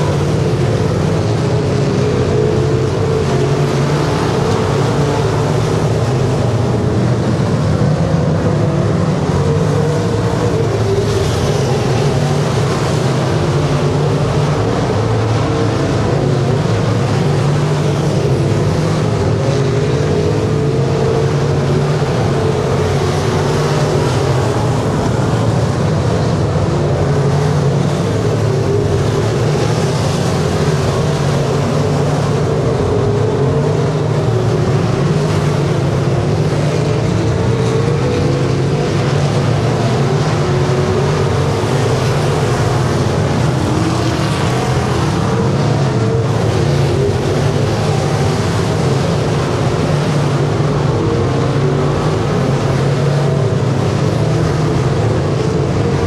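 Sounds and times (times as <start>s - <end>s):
race car engines droning: 0.0s - 56.0s.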